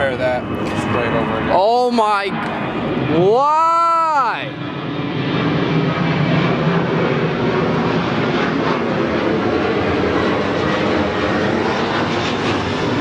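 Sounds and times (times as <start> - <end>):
loud engine drone: 0.0 - 13.0.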